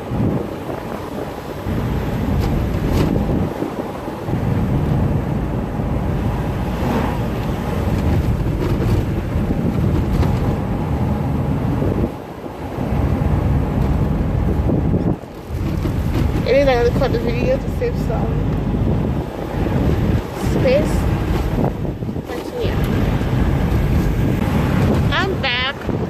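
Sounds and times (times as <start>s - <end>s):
car road and engine noise: 0.0s - 26.0s
wind on microphone: 0.0s - 26.0s.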